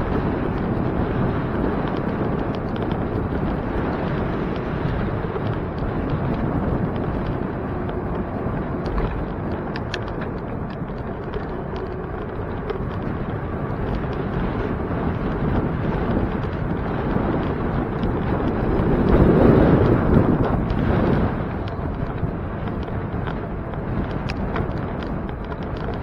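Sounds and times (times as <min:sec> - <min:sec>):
bicycle road noise: 0:00.0 - 0:26.0
light clicks and rattles: 0:00.0 - 0:26.0
wind rush on microphone: 0:00.0 - 0:26.0.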